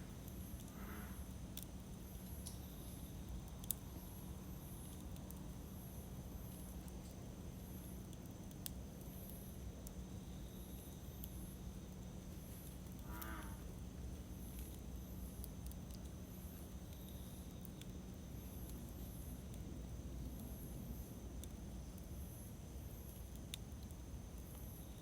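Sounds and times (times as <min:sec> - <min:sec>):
campfire crackling: 0:00.0 - 0:25.0
insects chirping: 0:00.0 - 0:25.0.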